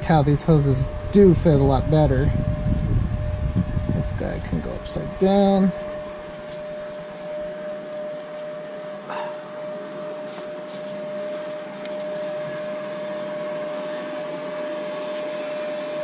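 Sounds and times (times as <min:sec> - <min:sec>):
motor whine with hiss: 0:00.0 - 0:16.0.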